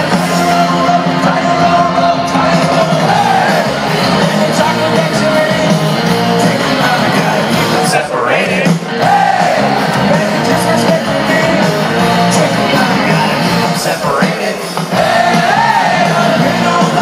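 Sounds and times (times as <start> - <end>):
punk rock band with vocals: 0.0 - 17.0.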